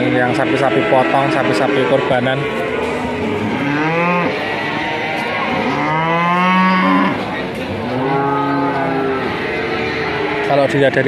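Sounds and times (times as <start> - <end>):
cattle mooing: 0.0 - 11.0.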